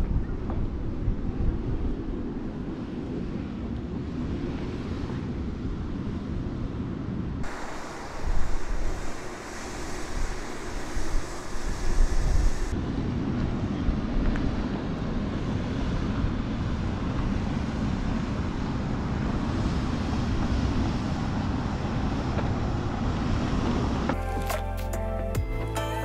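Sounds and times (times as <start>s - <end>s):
wind buffeting microphone: 0.0s - 24.2s.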